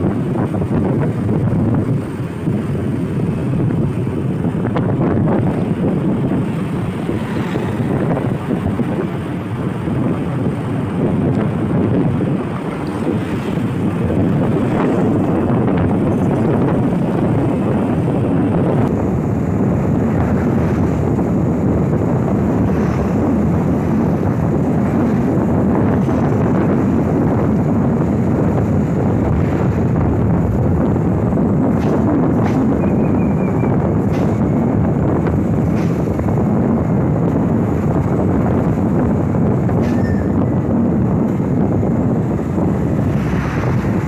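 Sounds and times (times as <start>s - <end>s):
engine and road noise: 0.0s - 44.0s
wind buffeting microphone: 0.0s - 44.0s.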